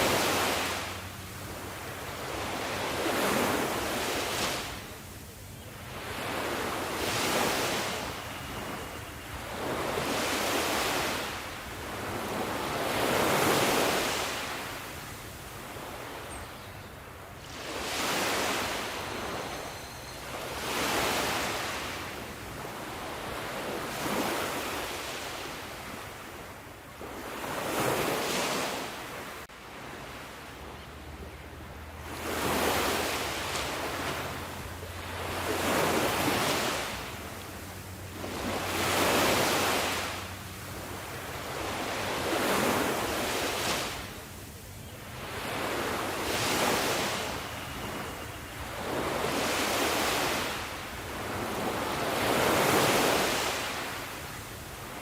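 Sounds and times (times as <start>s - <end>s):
sea waves breaking: 0.0s - 5.1s, 5.9s - 16.2s, 17.4s - 26.4s, 27.0s - 44.4s, 45.1s - 55.0s.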